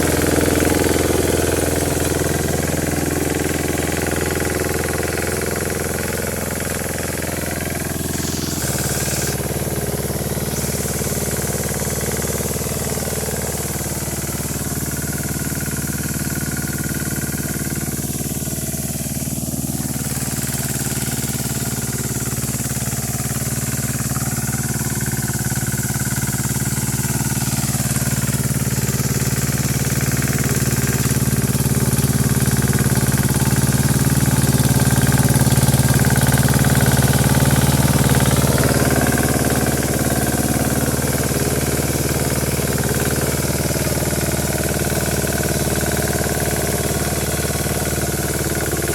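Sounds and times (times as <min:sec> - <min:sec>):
tiller engine putt-putt: 0:00.0 - 0:48.9.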